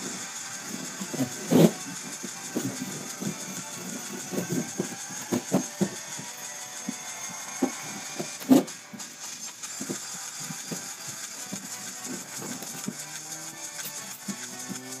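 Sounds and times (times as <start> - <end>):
dull knocks and thumps: 0.6 - 15.0.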